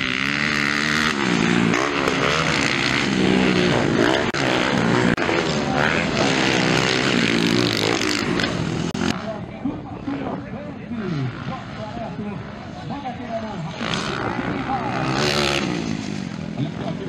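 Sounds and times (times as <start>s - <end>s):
dirt bike engines racing: 0.0s - 17.0s.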